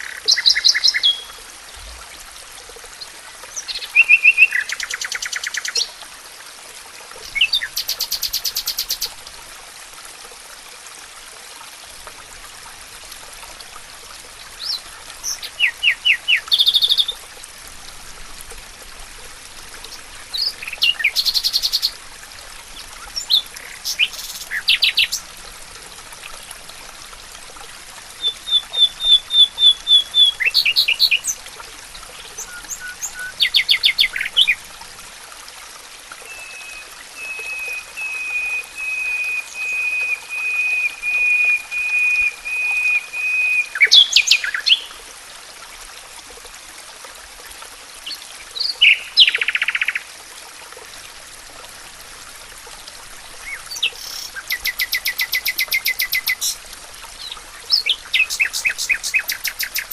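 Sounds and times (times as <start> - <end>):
faint steady hiss: 0.0 - 59.9.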